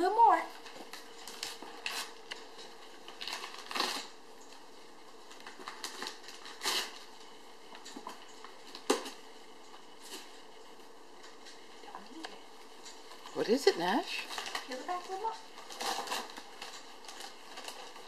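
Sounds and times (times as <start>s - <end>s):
wrapping paper crinkling and tearing: 0.1s - 18.0s.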